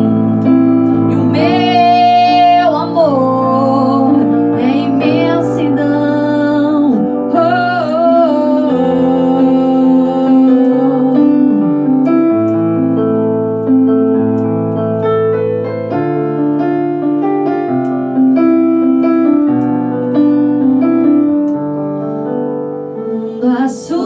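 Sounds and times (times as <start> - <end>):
slow solo piano ballad: 0.0 - 24.0.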